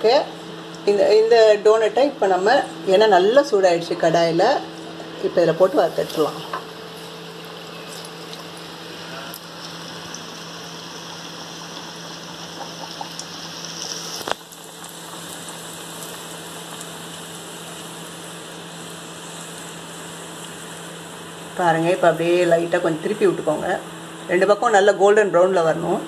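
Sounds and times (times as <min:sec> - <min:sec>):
dough sizzling in hot oil: 0:04.1 - 0:26.0.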